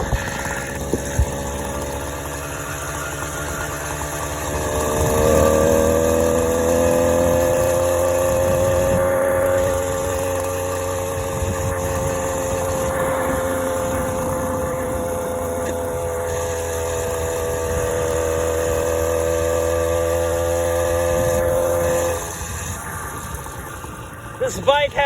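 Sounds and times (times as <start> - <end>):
motorized bicycle engine running: 0.0 - 25.0.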